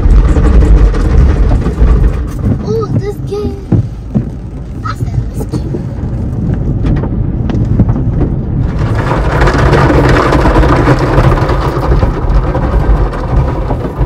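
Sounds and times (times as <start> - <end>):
low rumble inside car: 0.0 - 14.0
water spray hitting car roof: 0.0 - 14.0.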